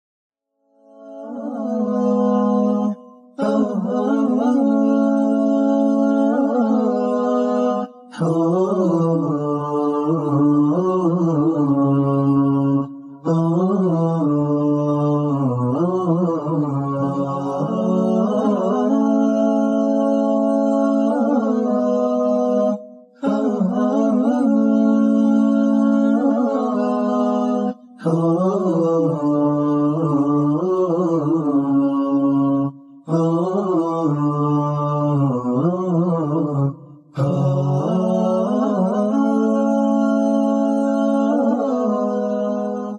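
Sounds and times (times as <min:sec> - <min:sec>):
slow wavering vocal music: 0:00.6 - 0:42.9.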